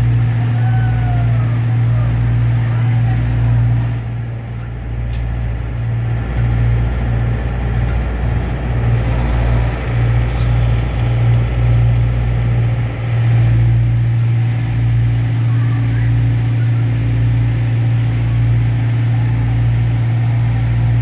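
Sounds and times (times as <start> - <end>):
locomotive engine humming: 0.0 - 21.0.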